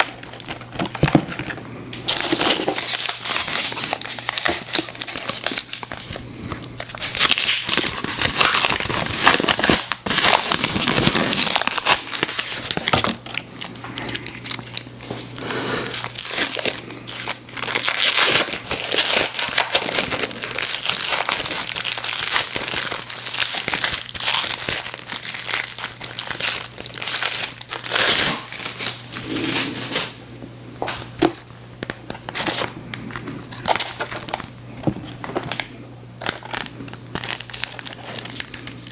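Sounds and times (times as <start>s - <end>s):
candy wrappers crinkling: 0.0s - 30.2s, 31.0s - 38.9s.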